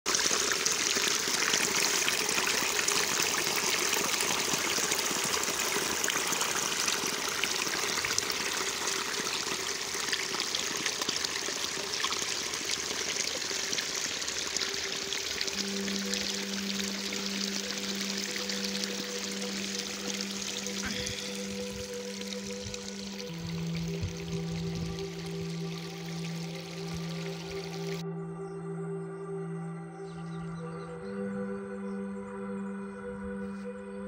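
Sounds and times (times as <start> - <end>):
water running and trickling: 0.1 - 28.0.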